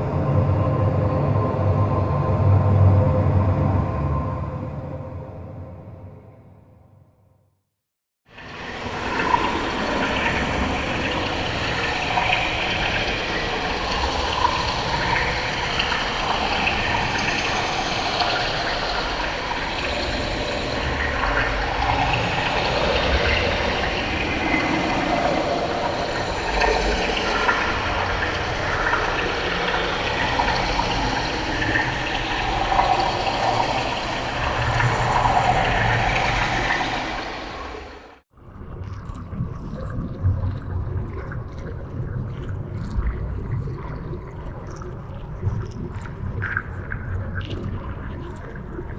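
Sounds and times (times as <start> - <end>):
water bubbling and gurgling: 8.4 - 48.9.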